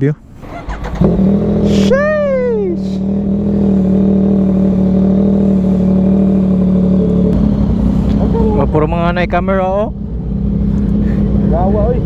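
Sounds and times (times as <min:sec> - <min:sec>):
motorcycle engine running: 0:00.5 - 0:12.0.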